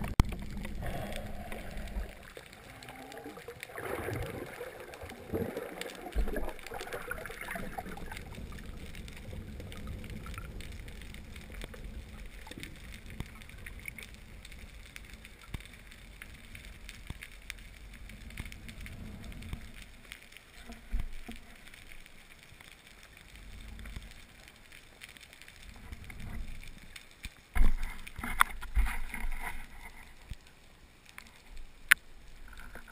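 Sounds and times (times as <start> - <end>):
faint clicks and crackles: 0.0 - 32.9
underwater rumble: 0.0 - 32.9.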